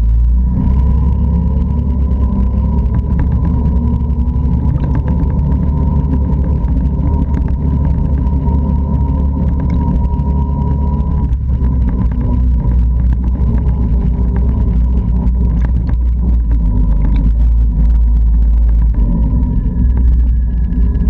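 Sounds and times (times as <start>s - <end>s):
quad engine running: 0.0s - 21.0s.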